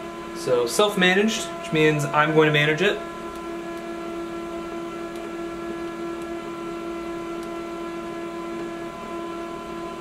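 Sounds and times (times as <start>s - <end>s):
printer humming: 0.0s - 10.0s.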